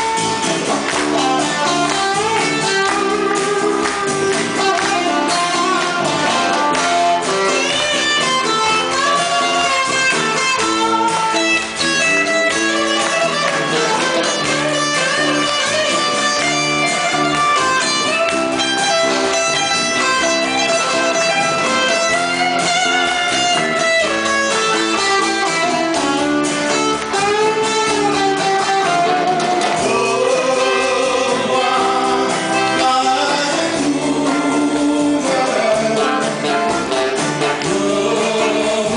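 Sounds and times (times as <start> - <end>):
live band pop song with guitars: 0.0 - 38.9.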